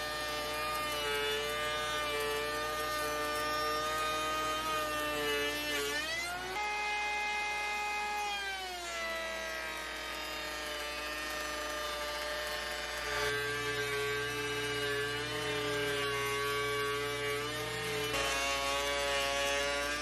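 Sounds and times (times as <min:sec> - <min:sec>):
router whining cutting wood: 0:00.0 - 0:20.0.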